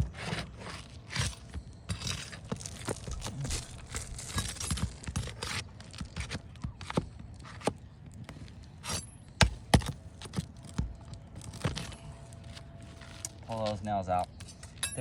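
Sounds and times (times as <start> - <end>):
tool scraping shingles: 0.0 - 13.8.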